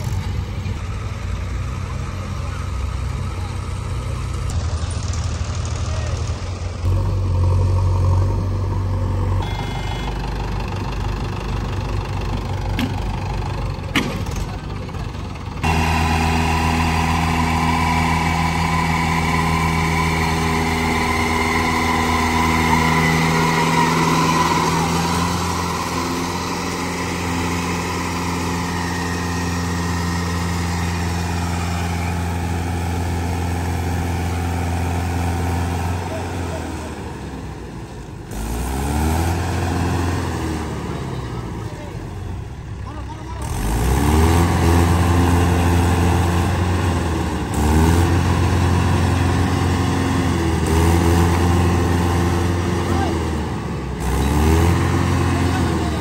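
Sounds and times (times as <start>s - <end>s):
diesel engines under load: 0.0s - 56.0s.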